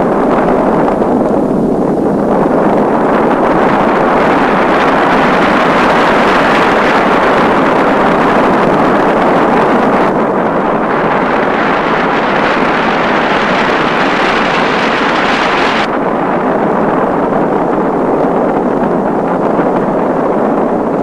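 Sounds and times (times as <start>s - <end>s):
vegetation fire roaring: 0.0s - 21.0s.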